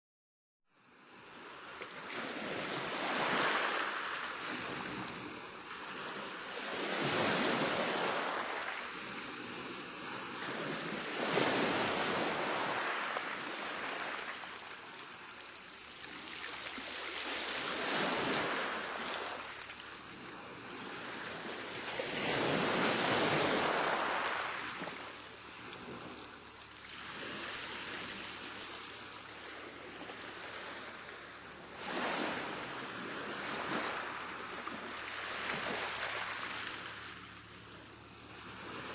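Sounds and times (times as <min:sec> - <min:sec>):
waves breaking on rough sea: 0:00.8 - 0:38.9.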